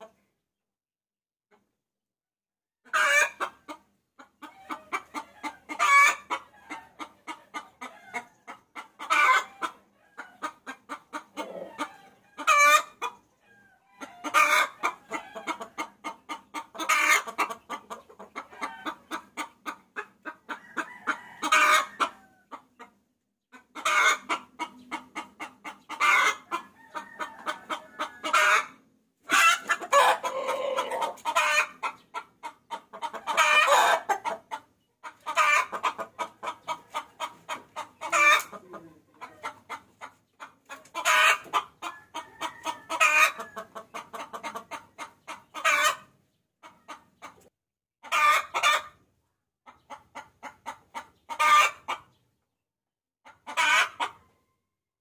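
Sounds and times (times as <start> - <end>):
hen cackling: 2.9 - 22.9, 23.5 - 47.4, 48.0 - 49.0, 49.7 - 52.1, 53.3 - 54.2.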